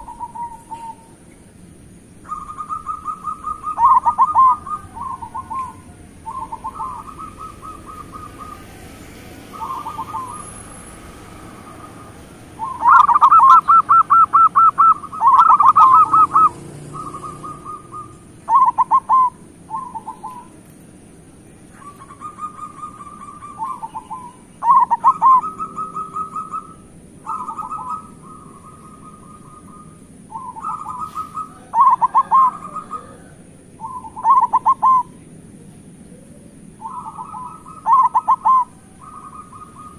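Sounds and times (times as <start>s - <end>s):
doves cooing: 0.0s - 20.7s, 21.6s - 39.9s.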